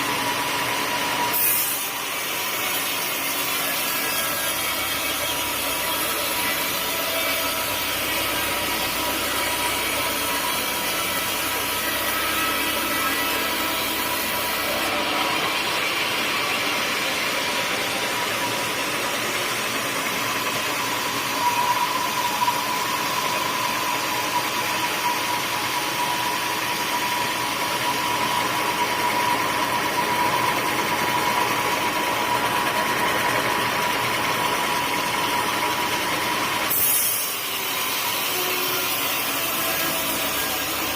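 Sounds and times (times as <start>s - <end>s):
sawmill saw cutting wood: 0.0s - 40.9s.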